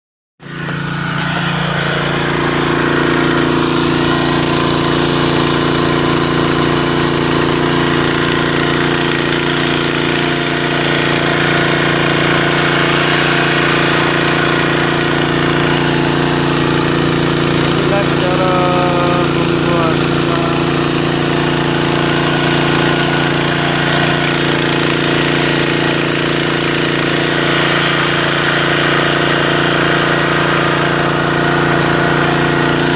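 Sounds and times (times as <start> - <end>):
generator engine running: 0.4 - 32.9.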